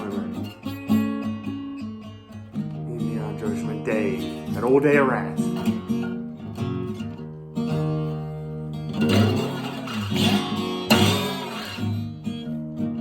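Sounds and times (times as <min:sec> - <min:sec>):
blues guitar playing: 0:00.0 - 0:13.0
hard-struck guitar chords: 0:00.0 - 0:13.0.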